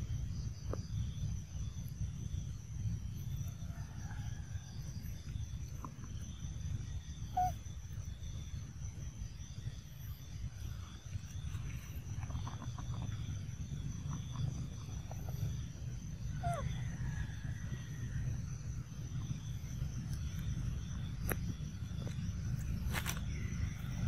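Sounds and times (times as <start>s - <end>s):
high insect drone: 0.0s - 24.0s
low rumble: 0.0s - 24.0s.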